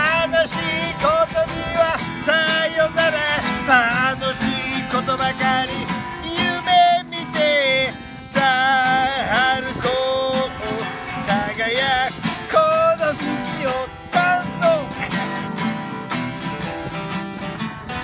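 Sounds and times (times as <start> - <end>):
acoustic guitars strummed: 0.0 - 18.0.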